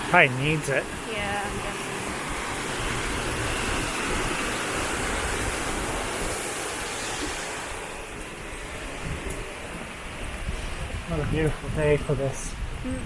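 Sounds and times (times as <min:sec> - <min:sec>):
river water rushing: 0:00.0 - 0:11.8.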